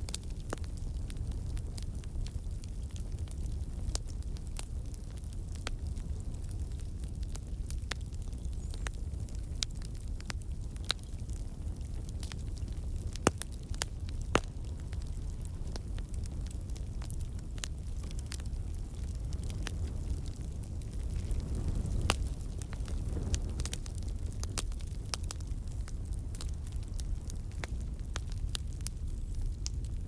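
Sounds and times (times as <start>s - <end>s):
campfire flames roaring: 0.0s - 30.0s
logs crackling and popping: 0.0s - 30.0s.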